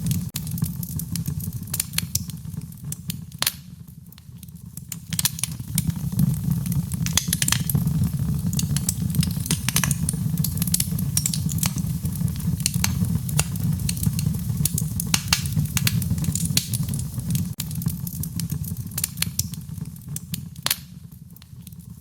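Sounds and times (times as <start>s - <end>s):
fire crackles and pops: 0.0s - 22.0s
wood fire rumble: 0.0s - 22.0s.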